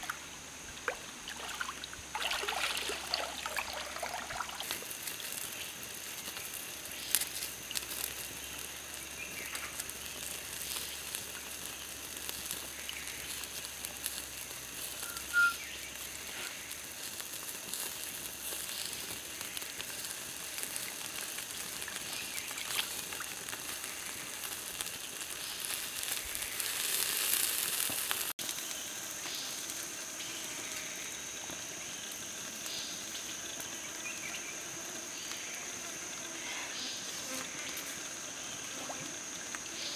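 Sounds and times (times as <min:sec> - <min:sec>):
fish sizzling over embers: 0:00.0 - 0:39.9
high insect drone: 0:00.0 - 0:39.9.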